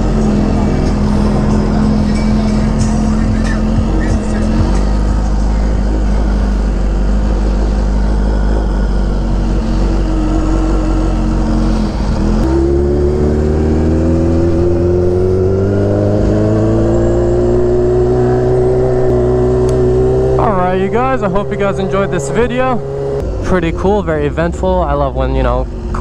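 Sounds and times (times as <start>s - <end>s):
motorcycle engine pulling away: 0.0s - 23.2s.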